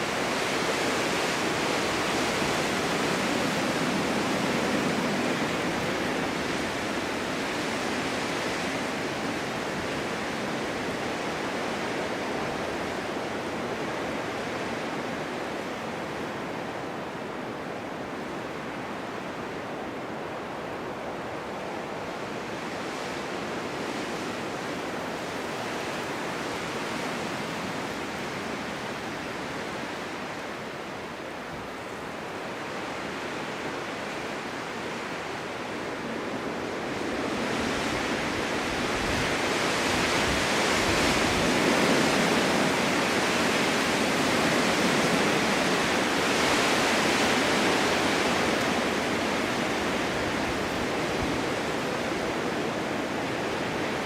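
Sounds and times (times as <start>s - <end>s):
wind blowing: 0.0s - 33.6s, 35.6s - 54.0s.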